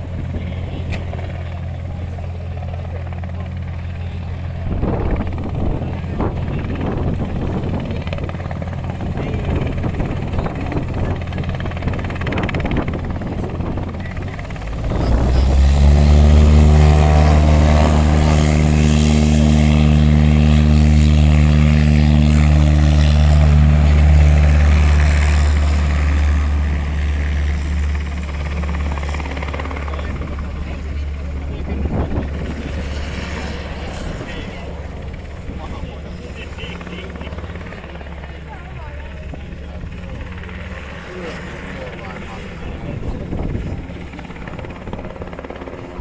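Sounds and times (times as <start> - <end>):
helicopter rumble: 0.0 - 46.0.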